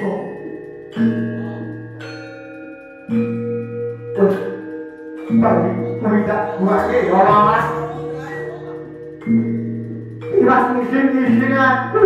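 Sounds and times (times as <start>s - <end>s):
metallophone notes: 0.0s - 12.0s.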